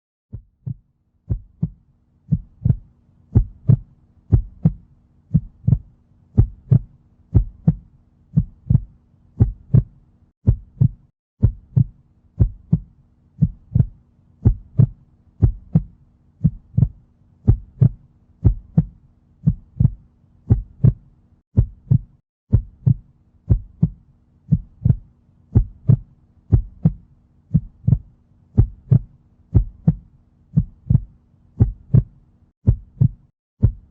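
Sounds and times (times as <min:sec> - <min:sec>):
heartbeat thumps: 0:00.3 - 0:33.9.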